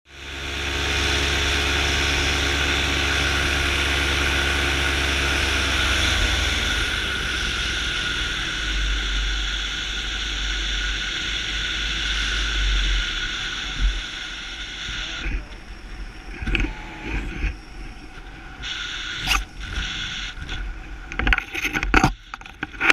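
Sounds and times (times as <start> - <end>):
paramotor engine running: 0.1 - 22.9.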